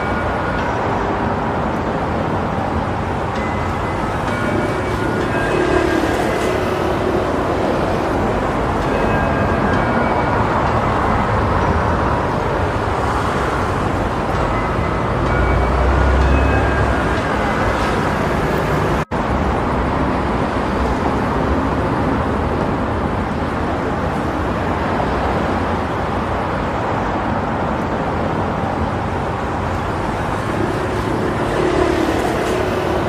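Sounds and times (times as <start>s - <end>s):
road traffic noise: 0.0s - 33.0s.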